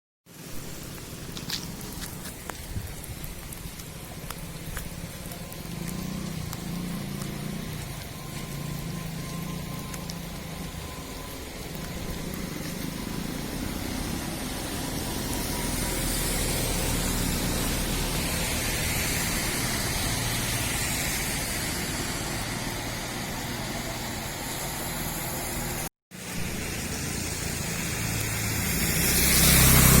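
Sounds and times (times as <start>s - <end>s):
heavy rain falling: 0.3s - 30.0s.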